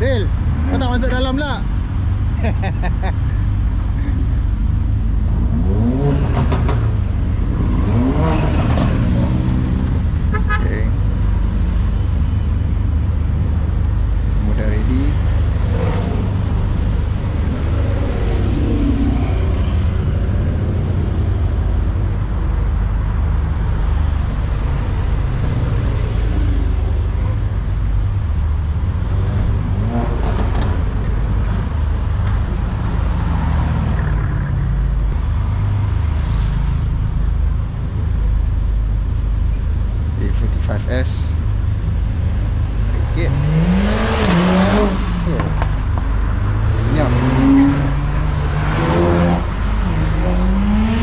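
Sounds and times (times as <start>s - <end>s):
car engines rumbling: 0.0s - 51.0s.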